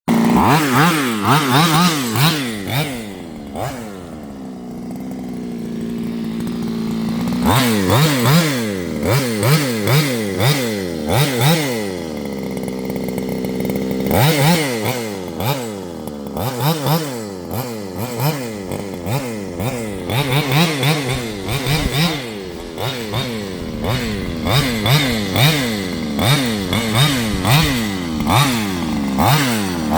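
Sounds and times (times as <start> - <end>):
two-stroke engine revving and idling: 0.0 - 29.9.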